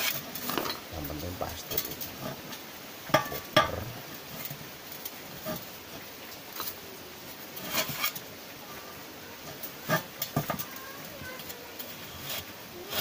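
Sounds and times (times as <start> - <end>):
fibrous rustling and scraping: 0.0 - 13.0.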